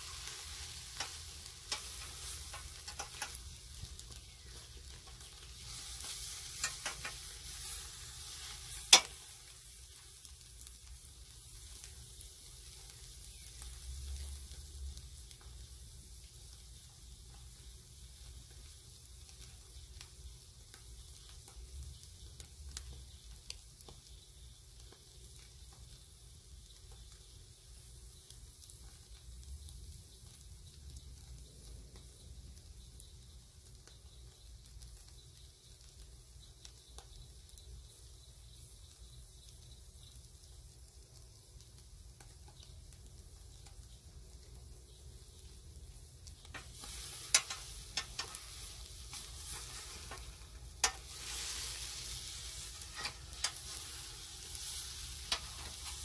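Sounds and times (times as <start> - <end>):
fire crackles: 0.0 - 56.0
fish sizzling on a grill: 0.0 - 56.0.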